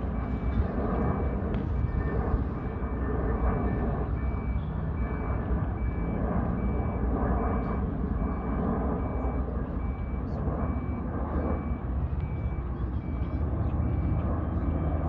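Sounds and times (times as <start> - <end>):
steady low rumble: 0.0 - 15.0
vehicle reversing alarm beeps: 0.0 - 15.0.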